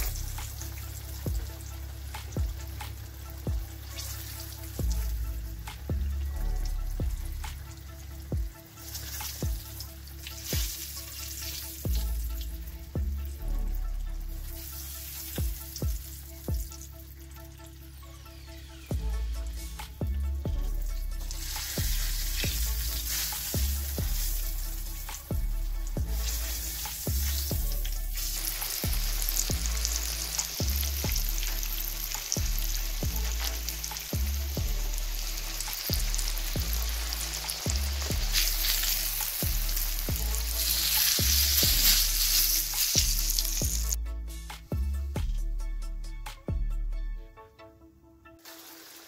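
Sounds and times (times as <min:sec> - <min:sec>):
food sizzling in hot oil: 0:00.0 - 0:12.9, 0:14.4 - 0:19.6, 0:20.7 - 0:44.0, 0:48.4 - 0:49.0
music with low beat: 0:00.0 - 0:47.8.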